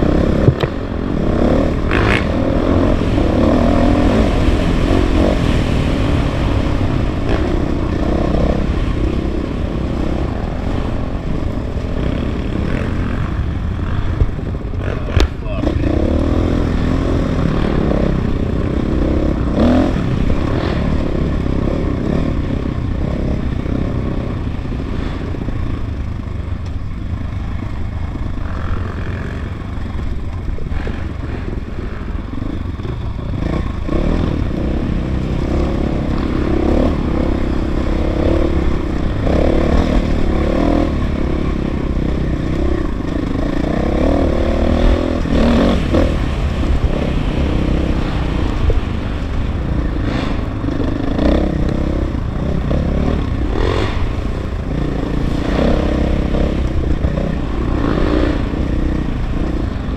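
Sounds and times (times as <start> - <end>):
dirt bike engine revving: 0.0 - 26.4, 27.1 - 59.9.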